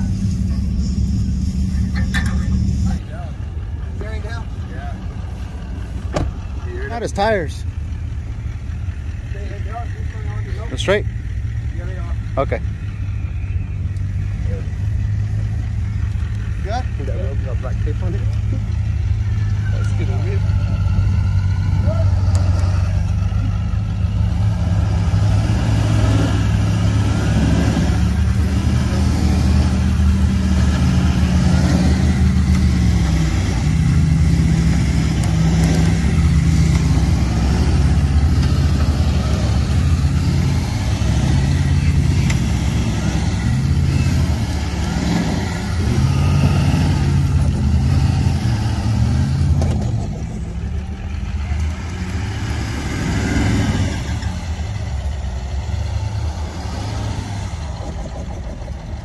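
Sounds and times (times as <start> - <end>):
truck engine revving under load: 0.0 - 59.0.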